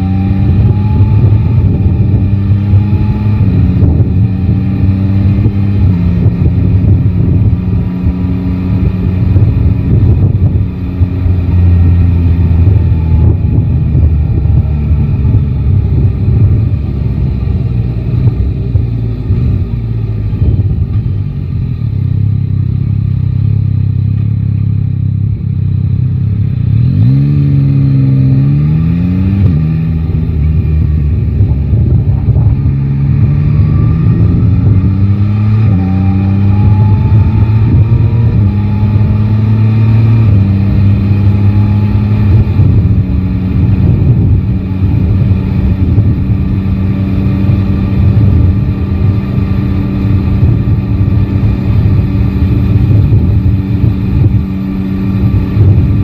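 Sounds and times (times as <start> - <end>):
wind rushing on microphone: 0.0 - 21.8, 26.6 - 56.0
motorcycle engine running: 0.0 - 56.0.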